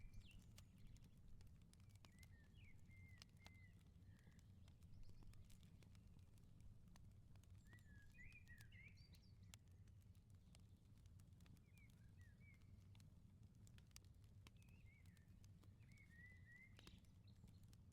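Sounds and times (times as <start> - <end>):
wood fire crackling and popping: 0.0 - 17.9.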